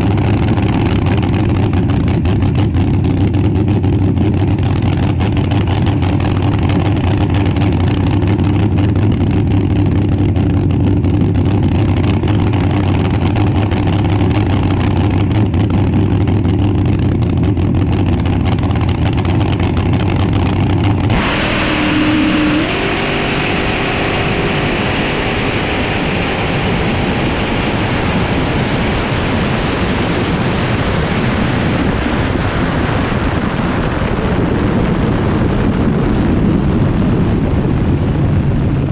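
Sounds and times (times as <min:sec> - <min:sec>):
engine pitch rising in steps: 0:00.0 - 0:33.5
drag racing engine: 0:00.0 - 0:36.4.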